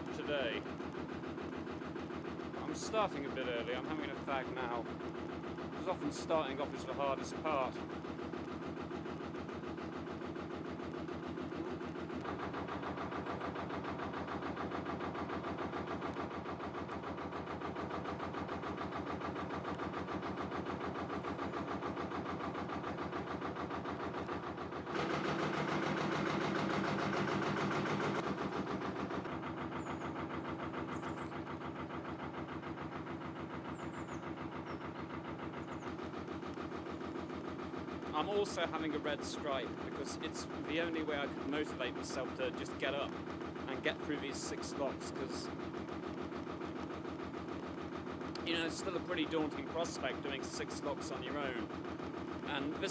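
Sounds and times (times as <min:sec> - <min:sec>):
boat diesel engine chugging: 0:00.0 - 0:52.9.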